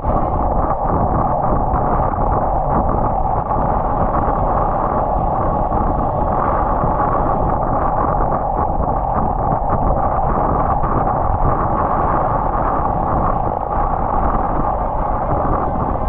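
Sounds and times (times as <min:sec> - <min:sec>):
wind rush: 0:00.0 - 0:16.0.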